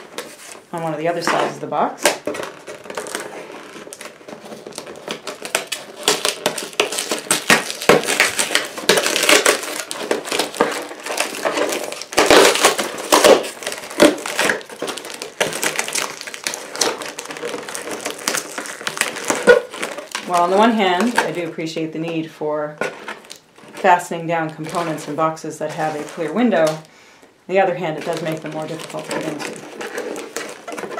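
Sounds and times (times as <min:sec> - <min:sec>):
cardboard and paper rustling: 0:00.0 - 0:26.9, 0:27.8 - 0:30.9
plastic strapping crinkling: 0:00.0 - 0:30.9.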